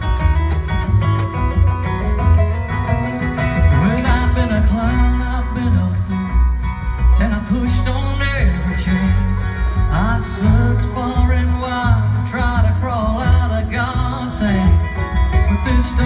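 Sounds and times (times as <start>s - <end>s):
acoustic guitar: 0.0s - 16.0s
banjo: 0.0s - 16.0s
fiddle: 0.0s - 16.0s
mandolin: 0.0s - 16.0s
upright bass: 0.0s - 16.0s.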